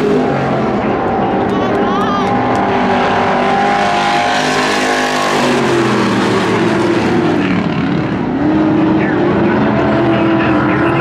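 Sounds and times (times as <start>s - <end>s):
race car engines at full throttle: 0.0s - 11.0s.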